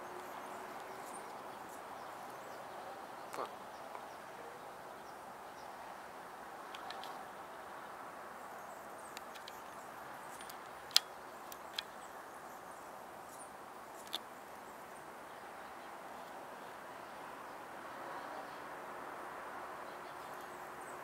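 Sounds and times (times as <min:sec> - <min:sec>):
outdoor background hum: 0:00.0 - 0:21.0.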